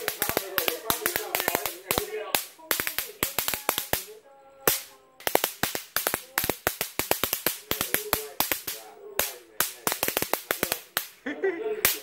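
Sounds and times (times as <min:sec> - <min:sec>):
electric swatter crackling snaps: 0:00.0 - 0:11.2.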